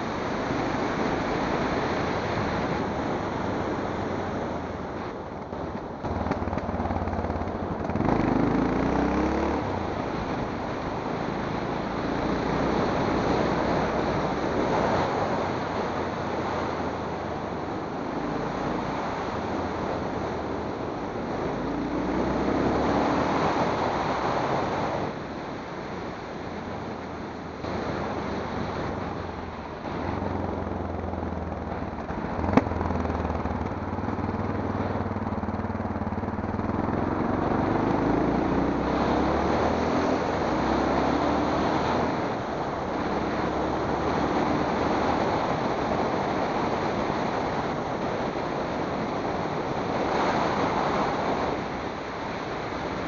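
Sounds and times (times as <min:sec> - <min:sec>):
wind rush from moving vehicle: 0:00.0 - 0:53.0.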